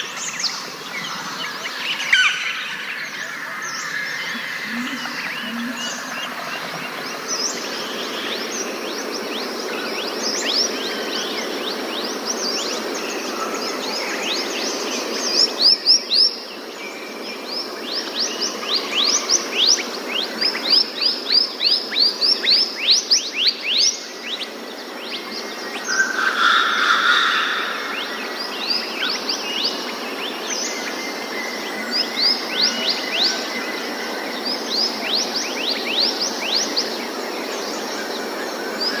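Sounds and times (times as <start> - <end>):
birds singing: 0.0 - 39.0
insects humming: 0.0 - 39.0.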